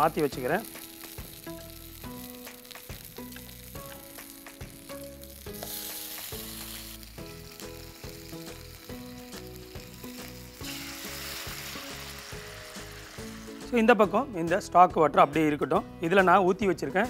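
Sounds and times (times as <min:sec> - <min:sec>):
hot liquid sizzling: 0:00.0 - 0:14.3.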